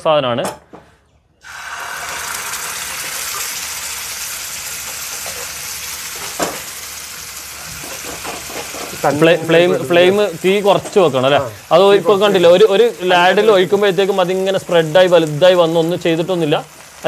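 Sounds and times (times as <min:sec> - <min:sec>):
batter sizzling in a hot pan: 0:01.4 - 0:17.0.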